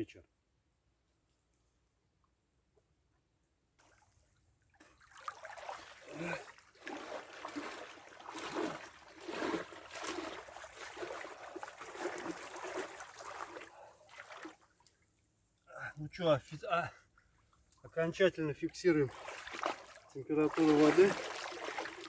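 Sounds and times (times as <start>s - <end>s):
lake water splashing and trickling: 3.8s - 22.0s.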